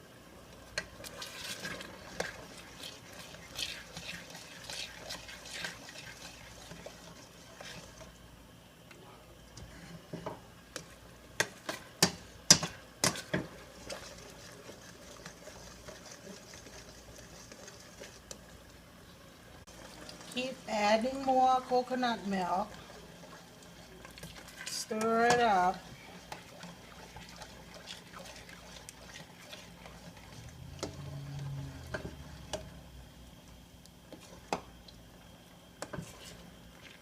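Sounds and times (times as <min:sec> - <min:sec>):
spoon stirring in a pan: 0:00.4 - 0:08.3, 0:09.4 - 0:19.1, 0:19.7 - 0:32.8, 0:34.0 - 0:35.0, 0:35.7 - 0:37.0.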